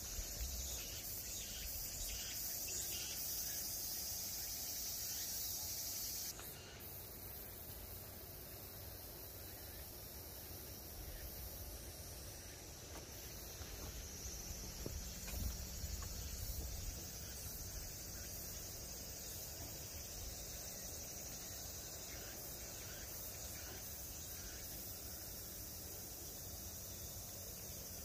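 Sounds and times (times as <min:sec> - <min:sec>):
chorus of crickets: 0:00.0 - 0:28.0.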